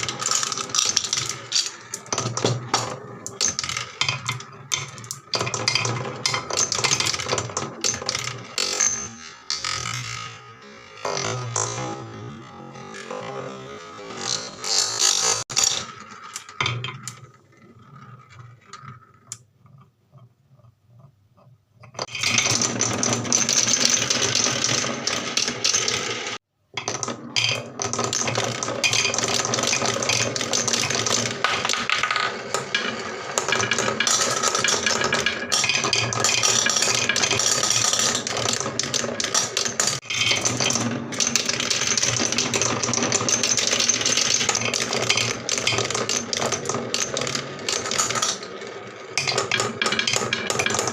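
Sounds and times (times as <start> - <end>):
marbles rolling on wooden tracks: 0.0 - 21.1, 22.0 - 50.9.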